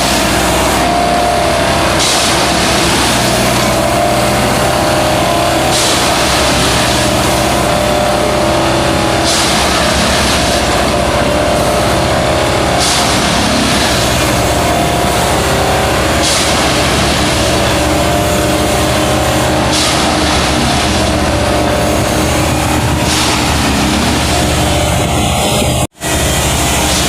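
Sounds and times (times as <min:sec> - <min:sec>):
track maintenance machine running: 0:00.0 - 0:27.0.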